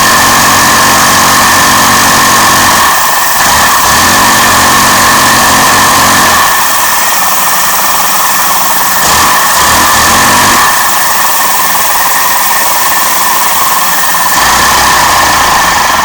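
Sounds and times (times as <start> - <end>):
small engine rapid chugging: 0.0 - 16.0
vacuum cleaner running: 0.0 - 16.0.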